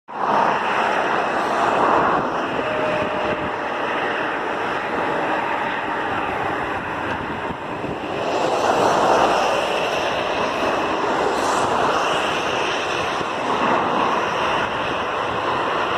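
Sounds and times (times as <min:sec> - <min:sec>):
jet engines running: 0:00.1 - 0:15.9.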